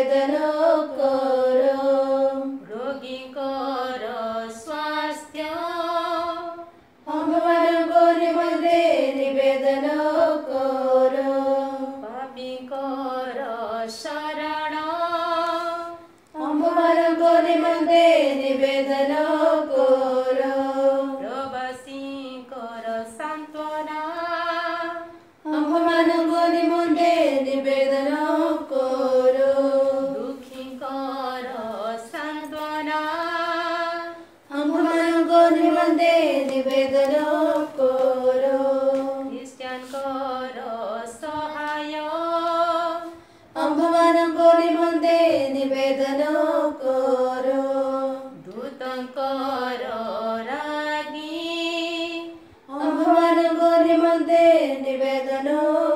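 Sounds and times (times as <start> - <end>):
voices singing a chant-like litany: 0.0 - 55.9.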